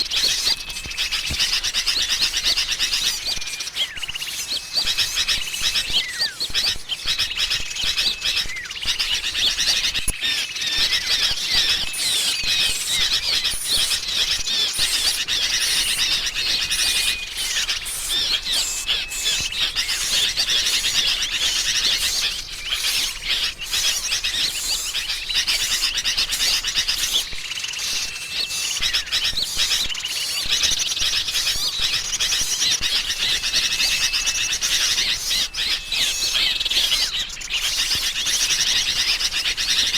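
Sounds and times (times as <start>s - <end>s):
bulbuls chattering: 0.0s - 39.9s
small birds calling: 0.0s - 39.9s.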